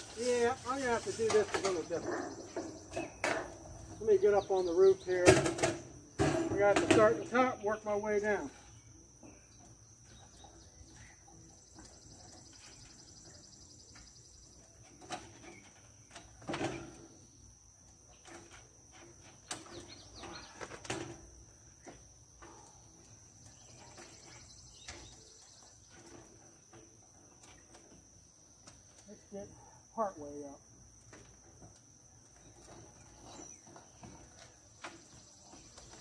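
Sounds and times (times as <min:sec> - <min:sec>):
high insect buzz: 0:00.0 - 0:36.0.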